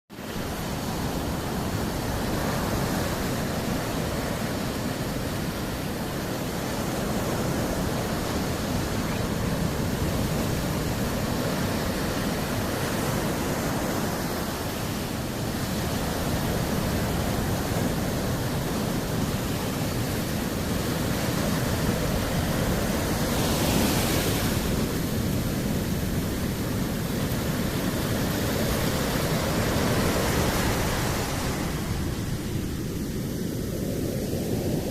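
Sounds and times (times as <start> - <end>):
sea surf washing: 0.1 - 34.9
wave breaking: 0.4 - 33.0.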